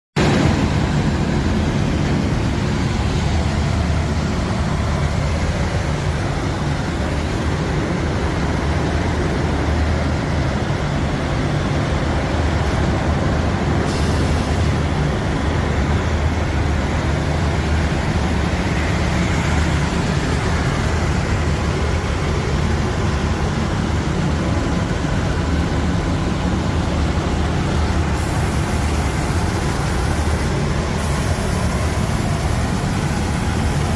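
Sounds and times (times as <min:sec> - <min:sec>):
machinery humming steadily: 0:00.2 - 0:33.9.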